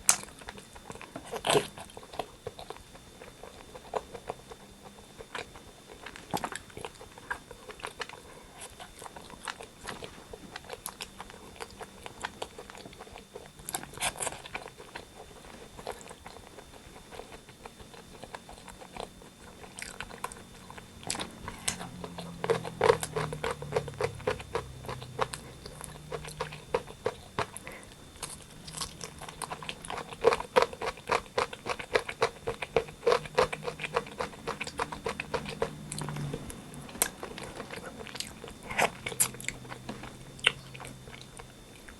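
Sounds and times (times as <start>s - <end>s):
chewing and biting food: 0.0s - 41.9s.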